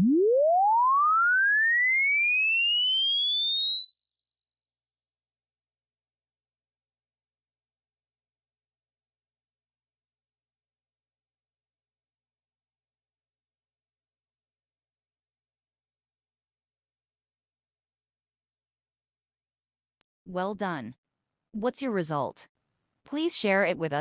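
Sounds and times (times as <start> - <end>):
sine tone sweeping upward: 0.0 - 20.0.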